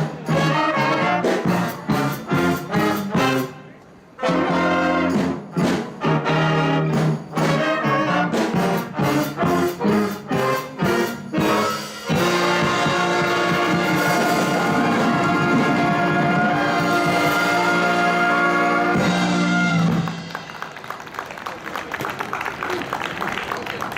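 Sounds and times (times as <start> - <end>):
brass band chord hits: 0.0 - 20.5.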